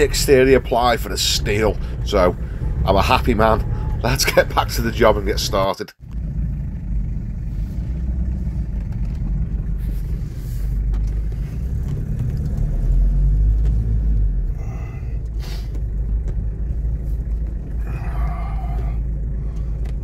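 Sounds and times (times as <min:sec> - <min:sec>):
road rumble: 0:00.0 - 0:20.0
truck engine running: 0:00.0 - 0:20.0.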